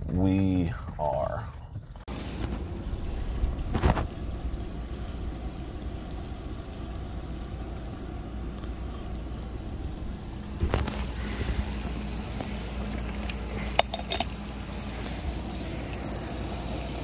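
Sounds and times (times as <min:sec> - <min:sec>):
background hiss and rumble: 0:00.0 - 0:17.0
ground coffee pouring: 0:02.1 - 0:17.0.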